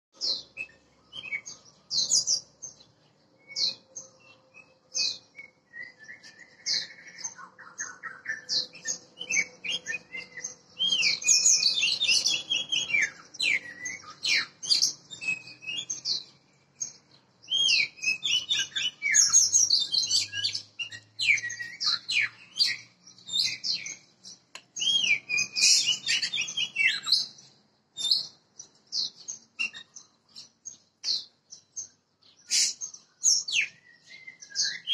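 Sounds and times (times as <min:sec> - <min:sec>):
bird singing whistles and chirps: 0:00.2 - 0:34.9.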